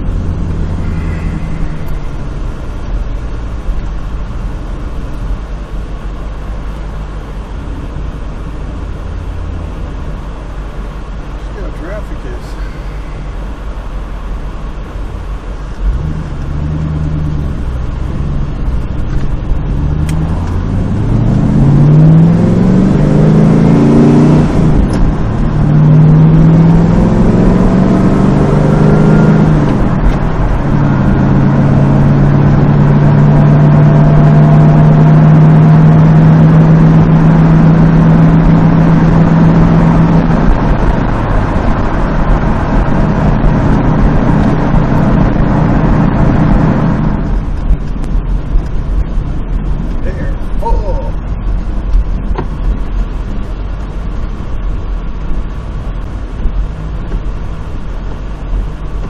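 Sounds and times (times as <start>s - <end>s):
car engine shifting gears: 0.0s - 59.0s.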